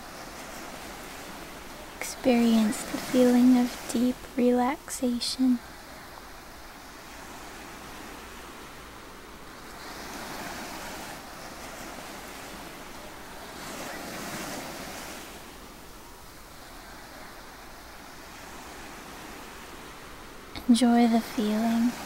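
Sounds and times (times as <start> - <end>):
ocean surf washing in and out: 0.0 - 22.0.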